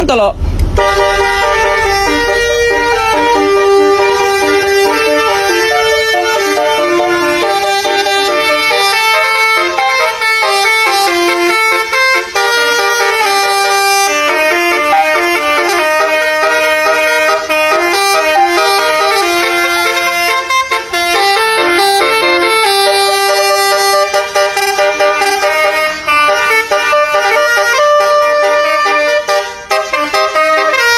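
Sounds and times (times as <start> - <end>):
multi-tone bus horn melody: 0.7 - 30.9.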